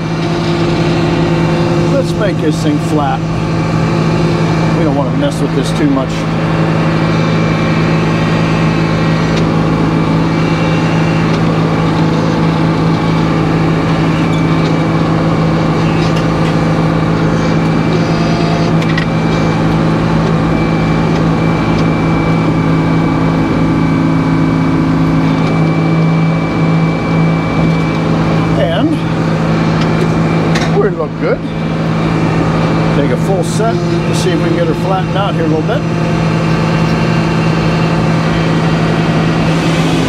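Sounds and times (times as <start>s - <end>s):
sawmill engine droning: 0.0s - 40.0s.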